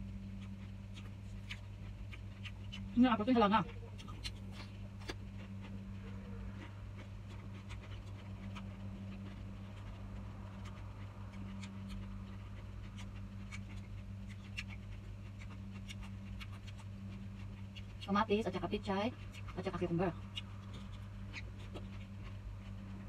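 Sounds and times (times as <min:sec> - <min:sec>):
chewing raw cucumber and salad: 0:00.0 - 0:23.0
steady low hum: 0:00.0 - 0:23.0.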